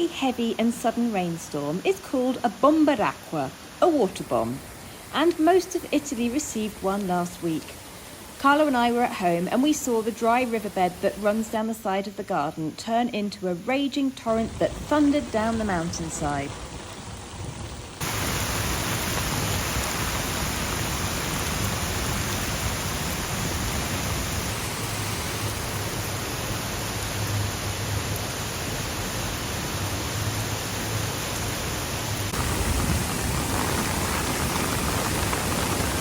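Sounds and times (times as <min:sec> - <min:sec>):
heavy rain: 0:00.0 - 0:13.2, 0:13.8 - 0:36.0
torrent rushing down riverbed: 0:00.0 - 0:36.0.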